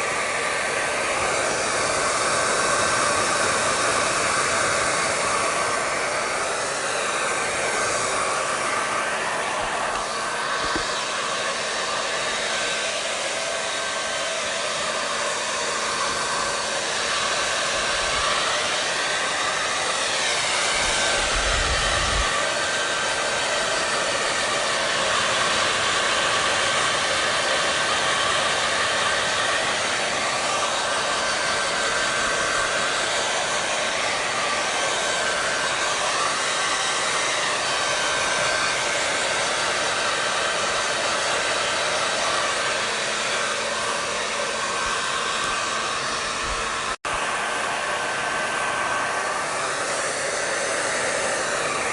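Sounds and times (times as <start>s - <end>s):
hair dryer running: 0.0s - 51.9s.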